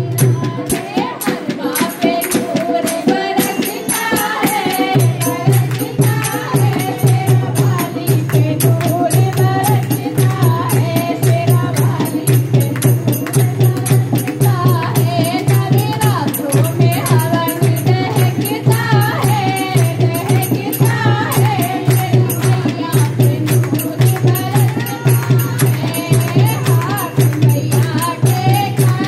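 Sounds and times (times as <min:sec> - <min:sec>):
devotional chanting: 0:00.0 - 0:29.0.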